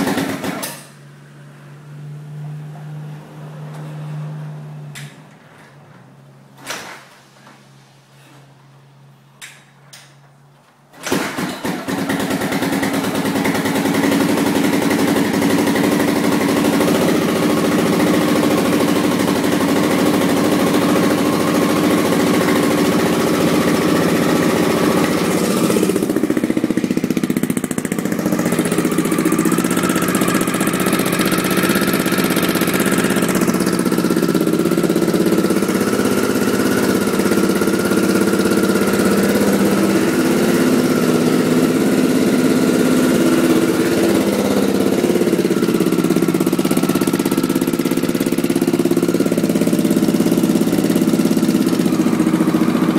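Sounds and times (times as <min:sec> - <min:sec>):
motorcycle engine idling: 0:00.0 - 0:01.0, 0:11.3 - 0:52.9.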